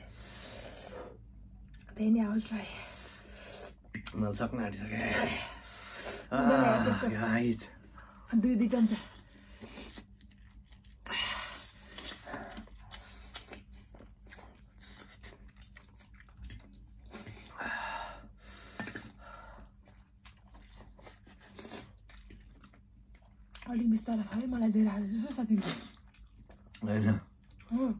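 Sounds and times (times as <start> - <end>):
people chewing and slurping noodles: 0.0 - 27.9.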